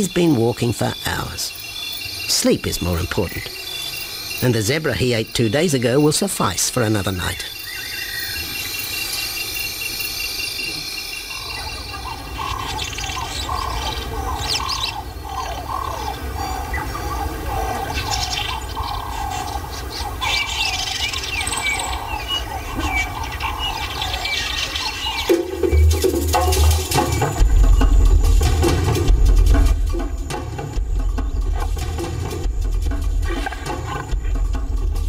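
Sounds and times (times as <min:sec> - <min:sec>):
higher bird chirps: 0:00.0 - 0:35.0
wild birds calling: 0:00.0 - 0:35.0.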